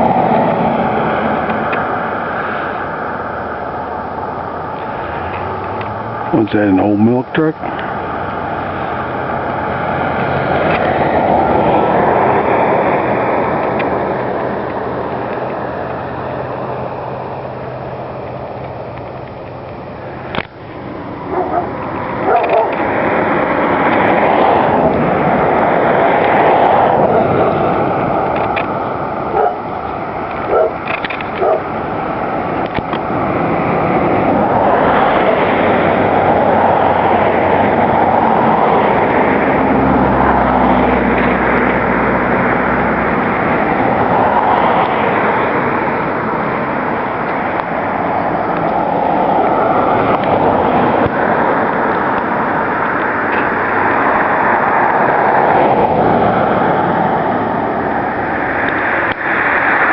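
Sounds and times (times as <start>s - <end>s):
low engine hum: 0.0s - 59.9s
rushing vehicle and wind noise: 0.0s - 59.9s.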